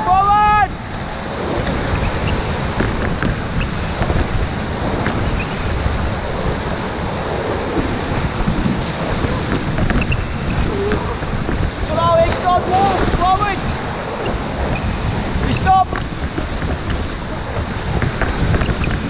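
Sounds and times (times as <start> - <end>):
whitewater rushing and splashing: 0.0 - 19.0
wind buffeting microphone: 0.0 - 19.0.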